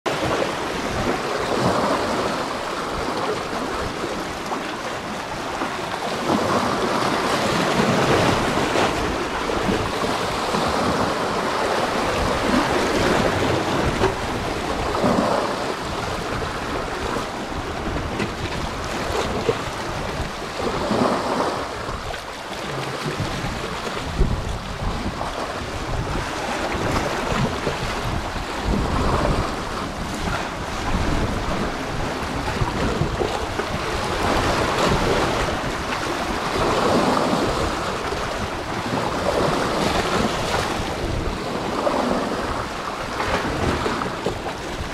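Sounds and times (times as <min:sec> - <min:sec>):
sea waves washing: 0:00.1 - 0:44.9
wind buffeting microphone: 0:00.1 - 0:44.9.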